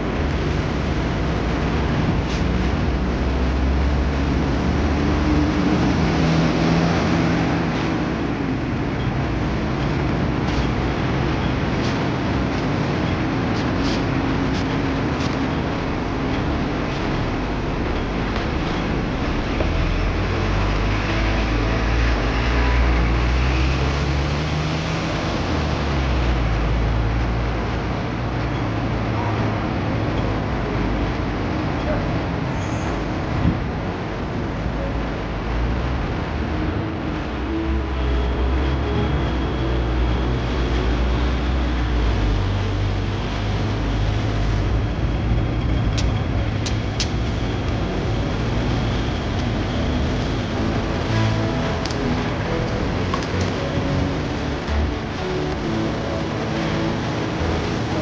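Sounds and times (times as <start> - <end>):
bus engine passing: 0.0 - 58.0
heavy vehicle engines: 0.0 - 58.0
road rumble: 0.0 - 58.0.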